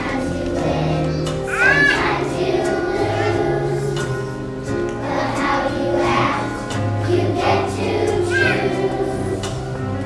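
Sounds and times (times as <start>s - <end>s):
children's choir singing: 0.0s - 10.0s.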